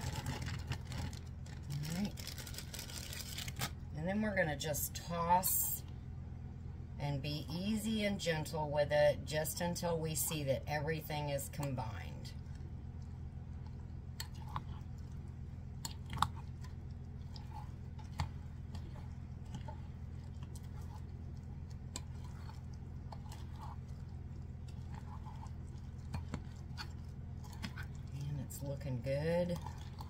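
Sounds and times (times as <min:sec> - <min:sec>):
batter squelching: 0:00.0 - 0:05.9, 0:09.2 - 0:30.0
steady low hum: 0:00.0 - 0:30.0.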